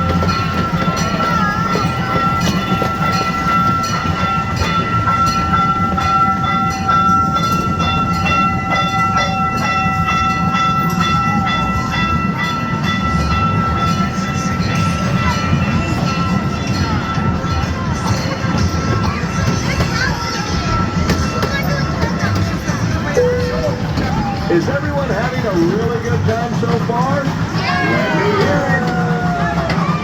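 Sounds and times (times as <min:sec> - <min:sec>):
ride train rumbling on track: 0:00.0 - 0:30.0
wheels clicking over rail joints: 0:00.0 - 0:30.0.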